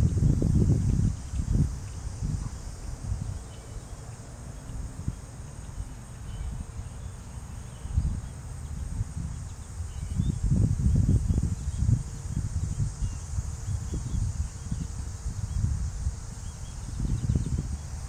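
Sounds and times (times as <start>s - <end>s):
insects chirping: 0.0s - 18.0s
wind rumble on microphone: 0.0s - 18.0s.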